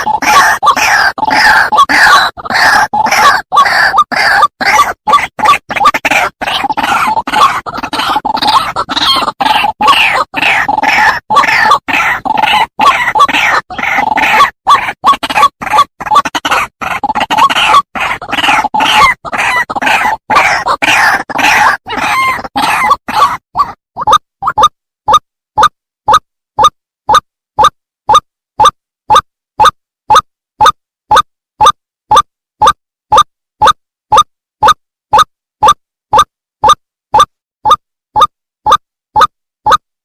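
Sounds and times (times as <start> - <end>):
waterhen croaking calls: 0.0 - 39.8.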